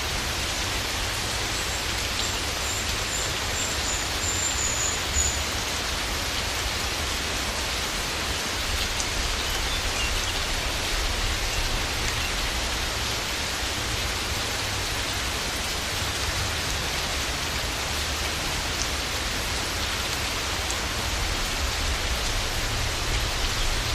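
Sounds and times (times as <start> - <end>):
steady rainfall: 0.0 - 23.9.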